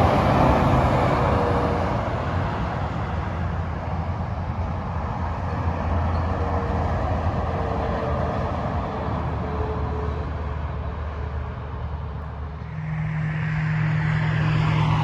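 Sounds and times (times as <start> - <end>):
heavy vehicle engine drone: 0.0 - 15.0.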